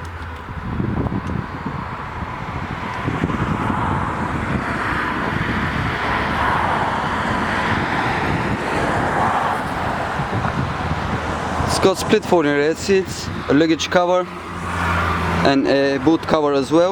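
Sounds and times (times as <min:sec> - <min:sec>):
road traffic rushing: 0:00.0 - 0:16.9
wind on microphone: 0:00.0 - 0:16.9.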